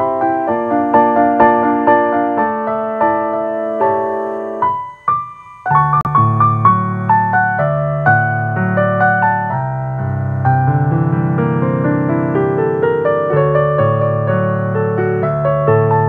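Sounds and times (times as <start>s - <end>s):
solo piano melody: 0.0s - 16.0s.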